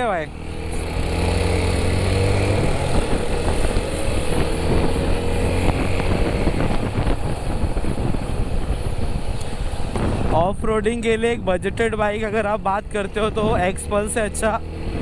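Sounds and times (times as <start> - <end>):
wind rumble on microphone: 0.3 - 15.0.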